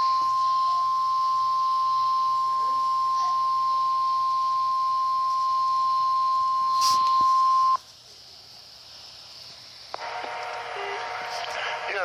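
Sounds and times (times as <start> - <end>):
steady high alarm tone: 0.0 - 7.8, 10.0 - 12.0
faint radio hiss: 0.0 - 12.0.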